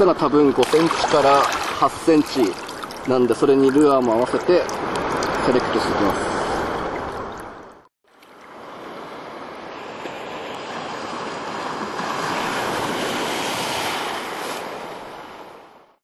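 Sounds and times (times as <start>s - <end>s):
surf washing over beach: 0.3s - 7.2s, 8.3s - 15.8s.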